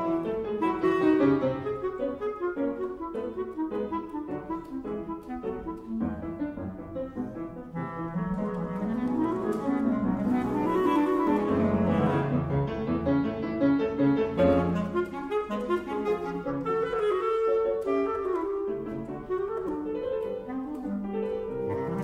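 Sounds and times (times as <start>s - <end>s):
clarinet playing fast runs: 0.0s - 12.6s, 14.3s - 22.0s
piano accompaniment: 0.0s - 22.0s.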